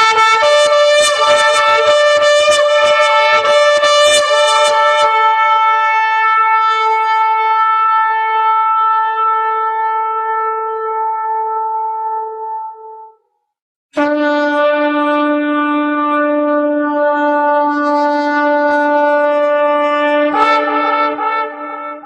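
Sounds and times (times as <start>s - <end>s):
ram's horn trumpet note: 0.0s - 13.1s, 14.0s - 22.0s.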